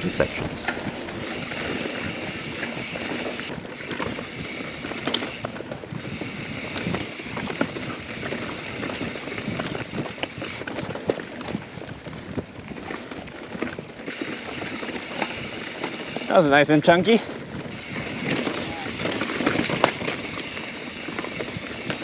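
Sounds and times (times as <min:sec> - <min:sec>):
bike knocking and rattling: 0:00.0 - 0:22.0
tyres crunching on dirt and stones: 0:00.1 - 0:22.0.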